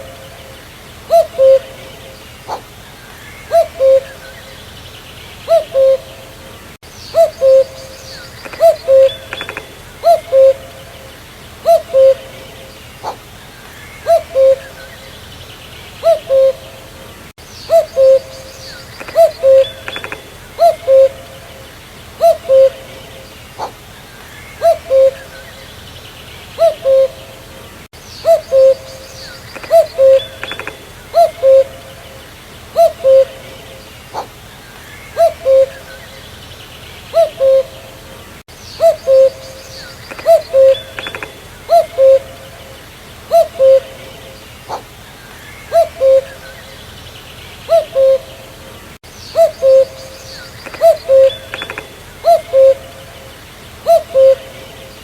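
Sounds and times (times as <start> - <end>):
cuckoo calling: 0.0 - 4.7, 5.4 - 15.3, 16.0 - 25.8, 26.6 - 36.4, 37.1 - 46.9, 47.6 - 55.0
faint bird twittering: 0.0 - 55.0.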